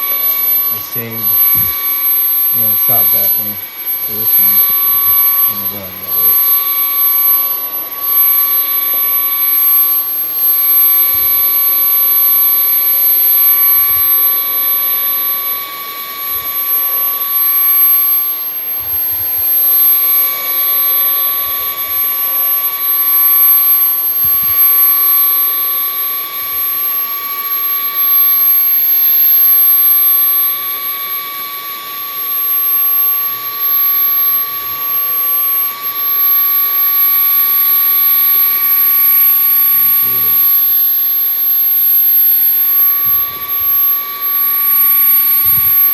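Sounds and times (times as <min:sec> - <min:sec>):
stick vacuum running: 0:00.0 - 0:45.9.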